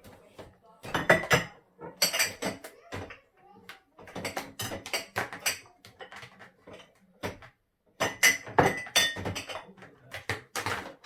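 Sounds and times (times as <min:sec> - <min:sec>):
dishes and glassware clinking: 0:00.8 - 0:03.2, 0:04.0 - 0:11.0.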